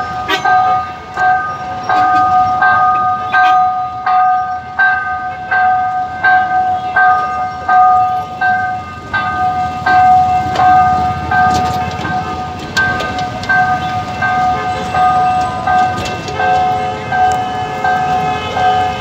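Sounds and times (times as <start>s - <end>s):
level crossing warning bell: 0.0s - 19.0s
street traffic noise: 0.0s - 19.0s.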